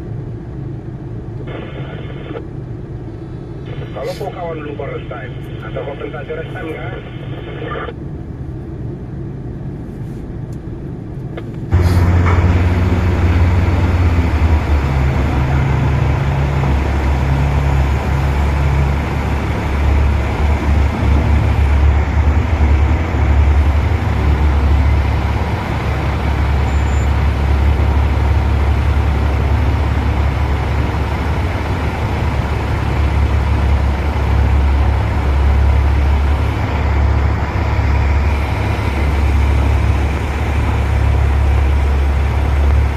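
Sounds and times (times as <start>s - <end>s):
heavy diesel engine rumbling: 0.0s - 42.9s.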